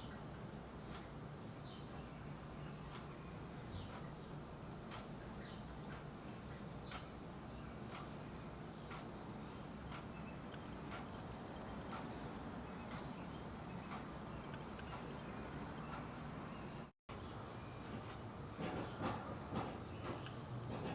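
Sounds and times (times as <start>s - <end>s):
faint insect trill: 0.0s - 15.7s, 17.2s - 18.5s
low background noise: 0.0s - 20.9s.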